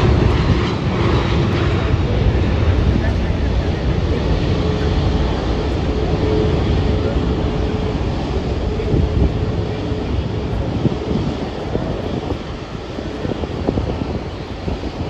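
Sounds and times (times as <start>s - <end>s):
jet airliner engine noise: 0.0s - 15.0s.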